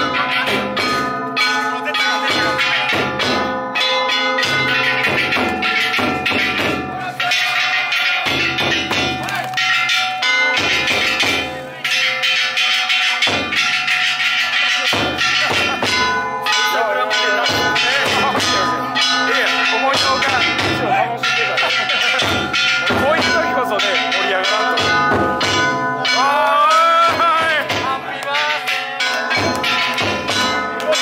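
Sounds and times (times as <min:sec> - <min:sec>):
heavy drum beats: 0:00.0 - 0:01.2, 0:02.1 - 0:03.6, 0:04.4 - 0:11.7, 0:13.1 - 0:31.0
bronze gongs clanging: 0:00.0 - 0:31.0.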